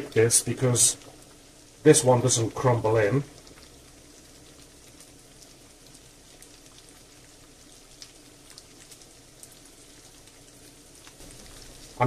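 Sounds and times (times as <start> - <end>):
meat frying in a pan: 0.0 - 12.0.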